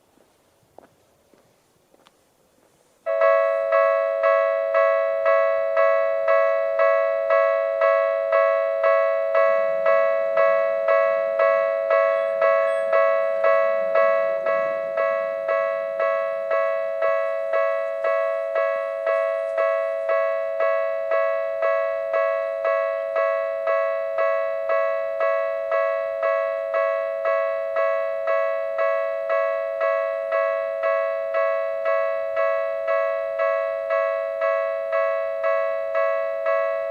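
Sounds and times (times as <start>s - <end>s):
level crossing electronic bell: 3.1s - 36.9s.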